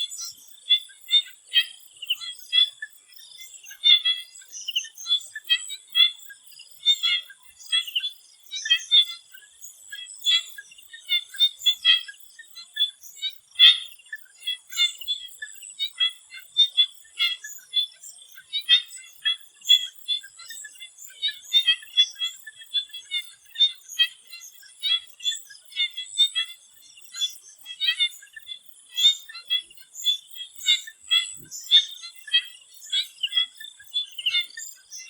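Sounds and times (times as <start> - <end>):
frogs chirping: 0.0 - 35.0.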